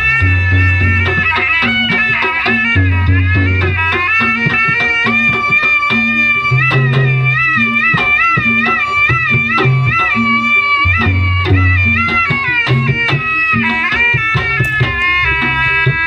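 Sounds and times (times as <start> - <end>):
drums: 0.0 - 16.0
reedy wind instrument melody: 0.0 - 16.0
sharp percussive strokes: 0.0 - 16.0.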